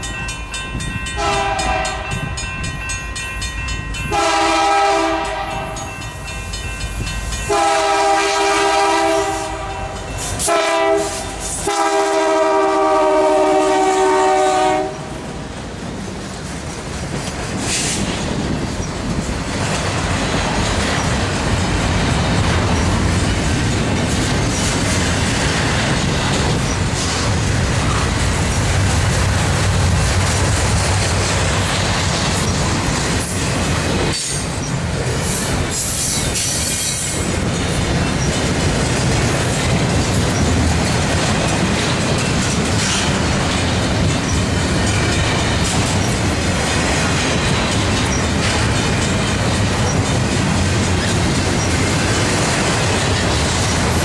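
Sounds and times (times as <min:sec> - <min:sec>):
rhythmic clatter over rails: 0:00.0 - 0:54.0
steel wheels rumbling on rail: 0:00.0 - 0:54.0.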